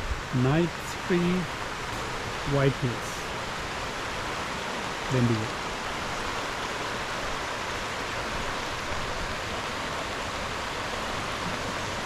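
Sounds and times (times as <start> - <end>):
fast-flowing creek water rushing: 0.0 - 12.0.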